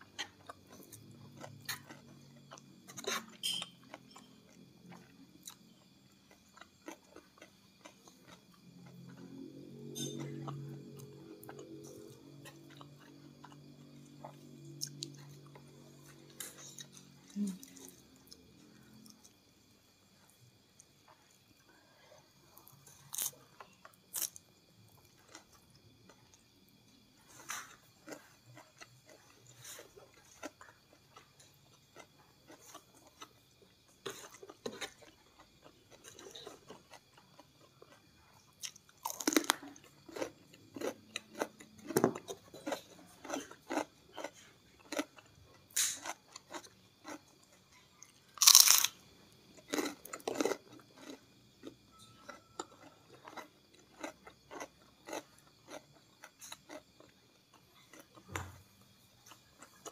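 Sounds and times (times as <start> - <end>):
chewing crunchy food: 0.0 - 59.9.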